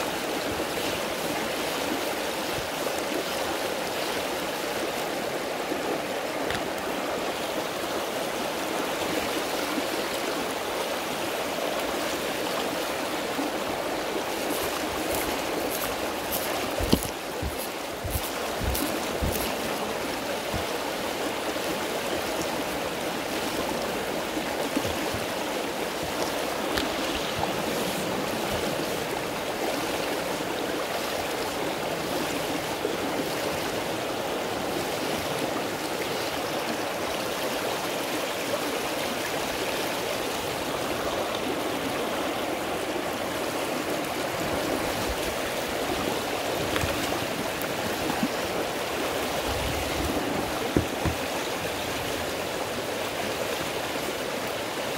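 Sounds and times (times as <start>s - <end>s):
river rushing over gravel: 0.0s - 36.8s, 39.6s - 54.9s.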